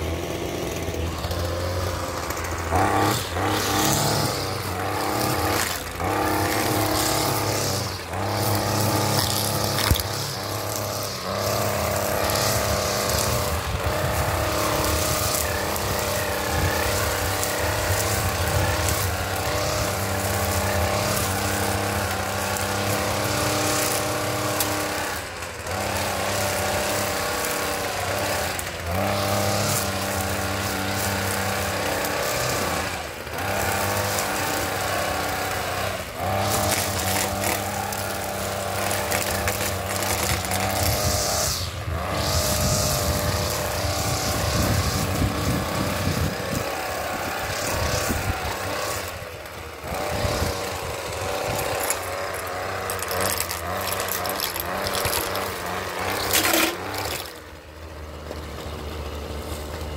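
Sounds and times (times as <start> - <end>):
string trimmer engine running: 0.0 - 59.9.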